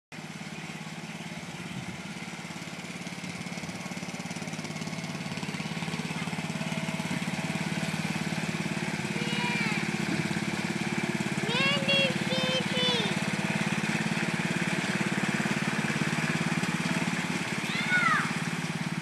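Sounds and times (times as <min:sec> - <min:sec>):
riding lawn mower engine: 0:00.1 - 0:19.0.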